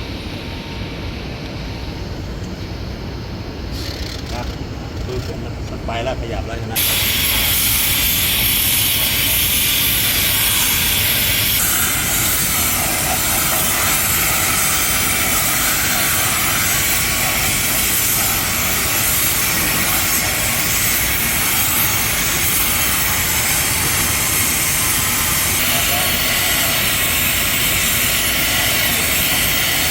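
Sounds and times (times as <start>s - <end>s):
loud steady hiss: 3.0s - 29.9s.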